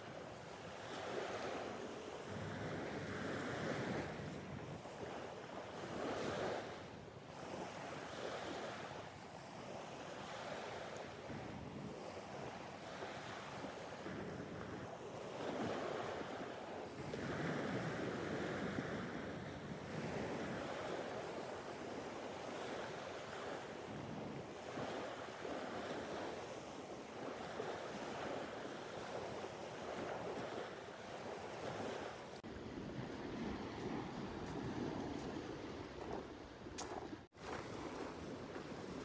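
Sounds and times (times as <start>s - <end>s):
small waves breaking on shore: 0.0s - 39.0s.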